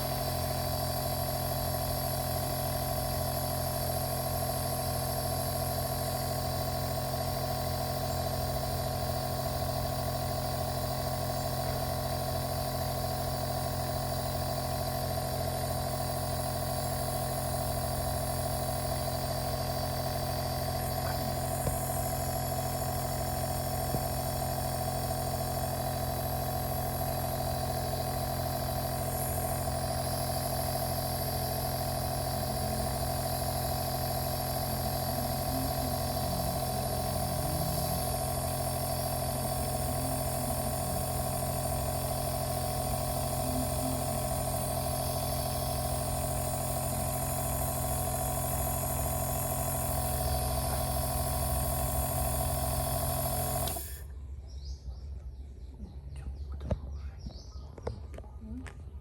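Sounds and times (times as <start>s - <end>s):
electric compressor humming: 0.0s - 54.7s.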